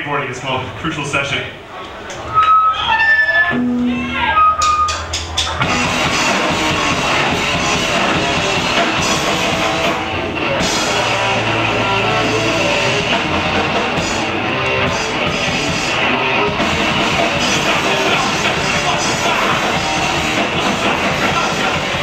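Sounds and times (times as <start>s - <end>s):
punk band playing live: 3.5s - 22.0s.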